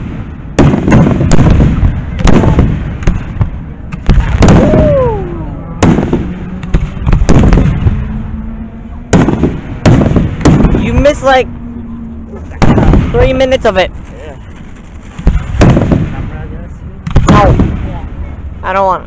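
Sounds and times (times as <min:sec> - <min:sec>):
firework shells booming: 0:00.0 - 0:05.2, 0:05.8 - 0:08.4, 0:09.1 - 0:11.4, 0:12.5 - 0:18.4.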